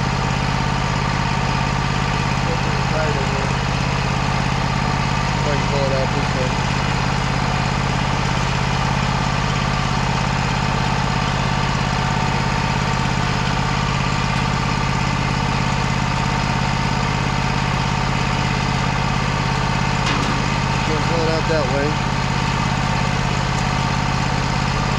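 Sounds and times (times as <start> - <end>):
diesel engine idling: 0.0 - 24.9.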